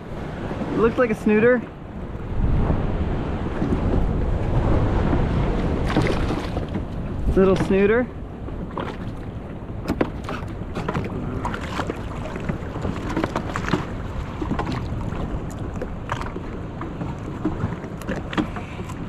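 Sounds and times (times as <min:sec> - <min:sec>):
water slapping against hull: 0:00.0 - 0:19.0
wind buffeting microphone: 0:00.0 - 0:19.0.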